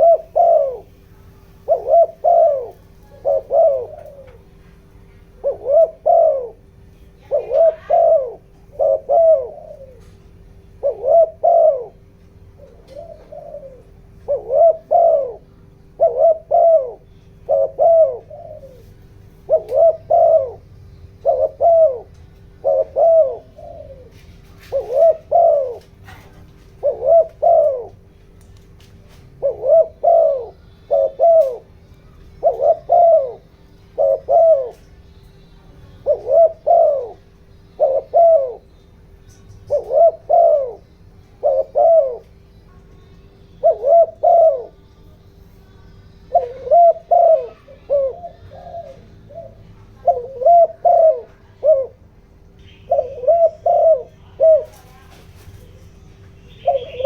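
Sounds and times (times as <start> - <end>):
dove cooing: 0.0 - 57.0
faint steady hum: 0.0 - 57.0.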